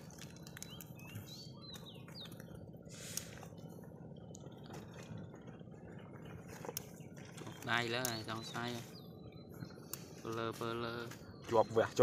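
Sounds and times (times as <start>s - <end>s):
small bird chirping: 0.0s - 12.0s
steady low hum: 0.0s - 12.0s.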